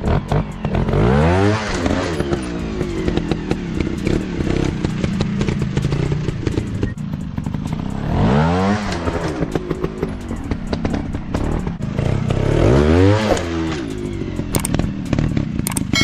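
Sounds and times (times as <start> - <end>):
dirt bike engine revving: 0.0 - 16.0
sharp clicks and clatter: 0.0 - 16.0.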